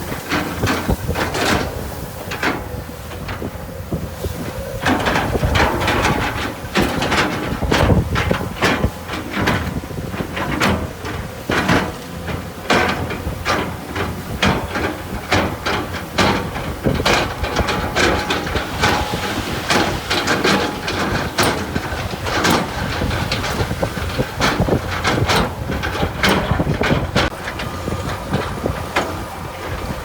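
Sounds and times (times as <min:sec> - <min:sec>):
earthmoving machine rumbling: 0:00.0 - 0:30.0
clanks of metal and stone: 0:04.8 - 0:29.2.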